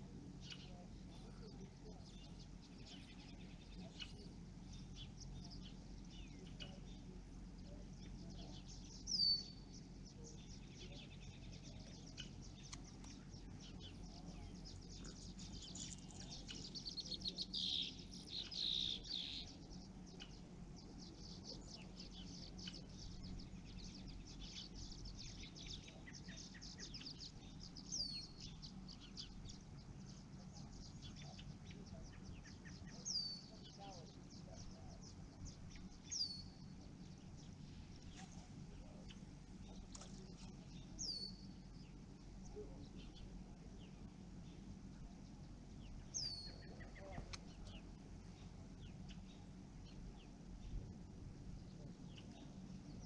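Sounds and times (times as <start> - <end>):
songbirds chirping and trilling: 0.0 - 53.0.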